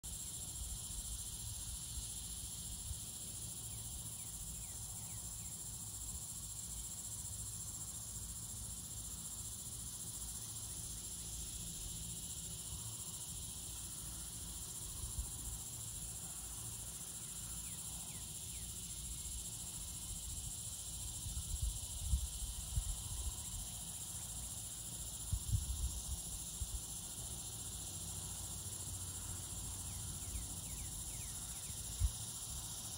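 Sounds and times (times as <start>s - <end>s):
insect chorus buzzing: 0.0s - 32.9s.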